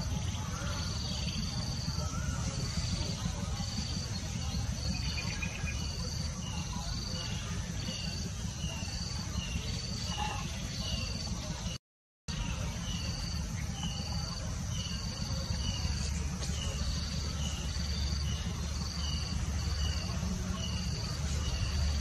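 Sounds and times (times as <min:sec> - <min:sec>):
insects high drone: 0:00.0 - 0:22.0
low steady rumble: 0:00.0 - 0:22.0.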